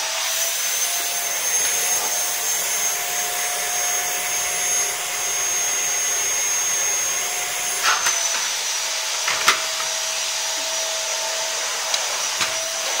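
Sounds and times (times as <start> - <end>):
vacuum cleaner whining: 0.0 - 13.0.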